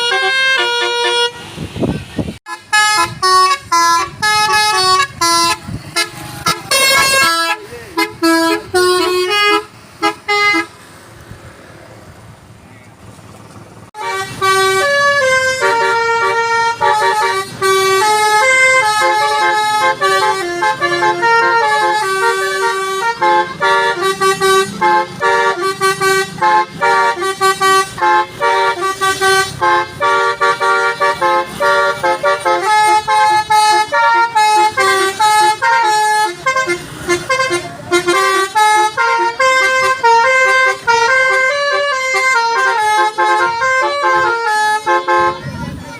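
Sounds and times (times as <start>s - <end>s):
bus air horn playing melody: 0.0s - 11.0s, 14.0s - 45.9s.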